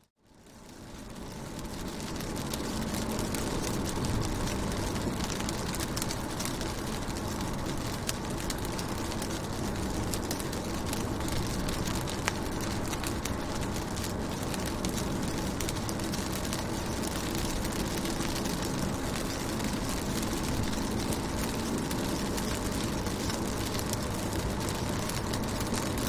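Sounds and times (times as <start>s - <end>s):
rain drops tapping on window glass: 0.3s - 26.0s
steady low rumble: 0.4s - 26.0s.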